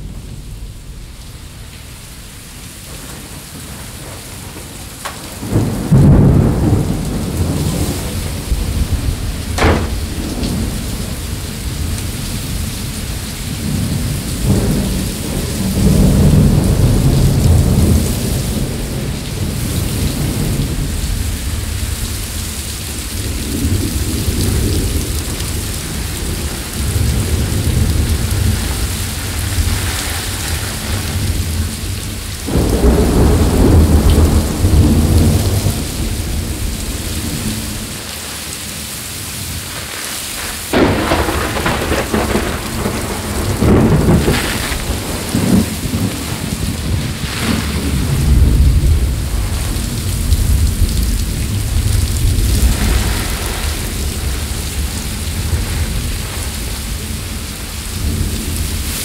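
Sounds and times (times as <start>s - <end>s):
heavy rain: 0.0s - 59.0s
rolling thunder: 2.7s - 38.0s, 40.5s - 58.9s
loud thunderclaps: 2.9s - 12.6s, 13.5s - 22.2s, 22.9s - 37.9s, 40.5s - 58.9s.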